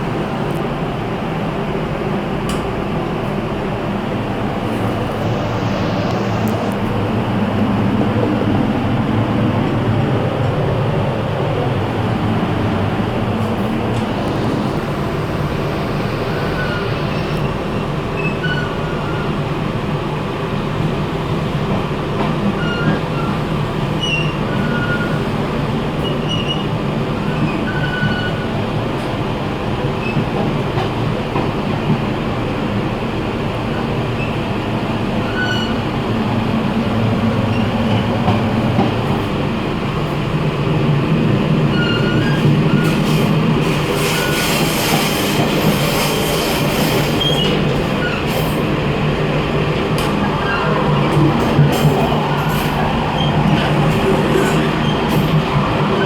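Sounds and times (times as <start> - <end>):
train coach rumbling: 0.0 - 56.0.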